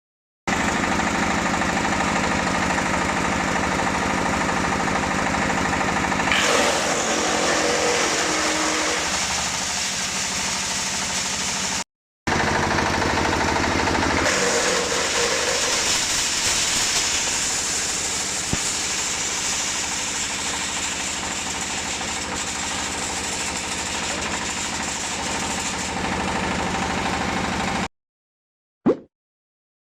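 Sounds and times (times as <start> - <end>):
wood chipper running: 0.5 - 27.9.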